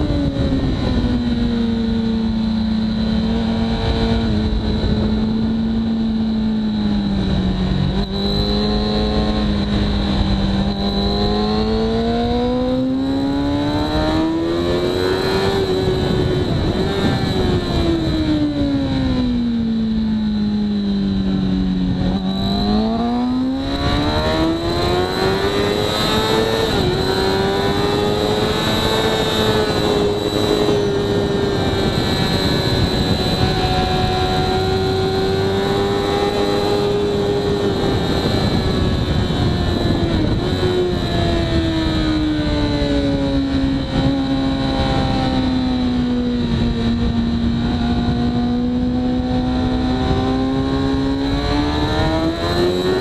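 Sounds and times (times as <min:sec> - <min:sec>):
motorcycle engine revving: 0:00.0 - 0:53.0
wind rush: 0:00.0 - 0:53.0.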